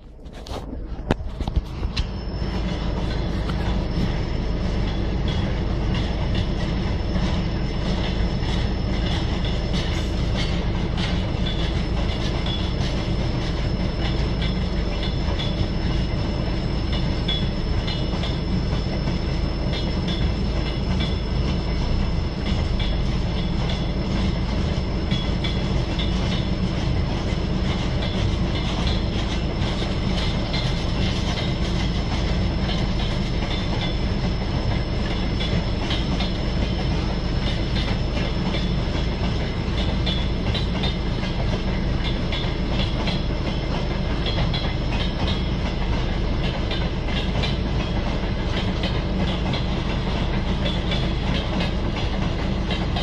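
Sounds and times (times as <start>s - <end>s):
train rumbling on rails: 0.0s - 53.0s
wheels clicking over rail joints: 0.2s - 53.0s.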